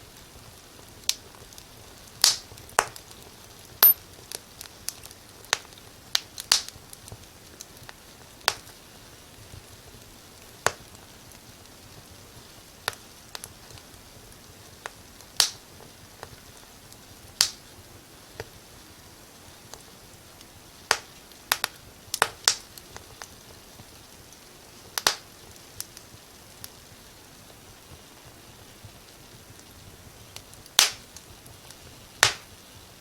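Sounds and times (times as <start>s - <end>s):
wood fire crackling: 0.1s - 33.0s.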